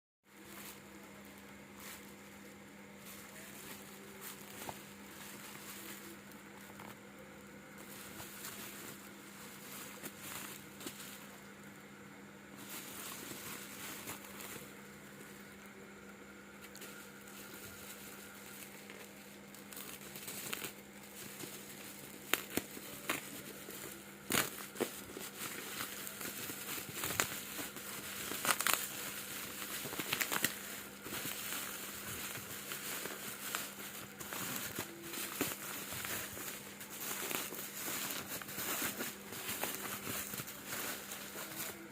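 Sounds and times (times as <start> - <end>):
faint steady hum: 0.2 - 41.9
packaging crinkling and rustling: 0.3 - 41.9.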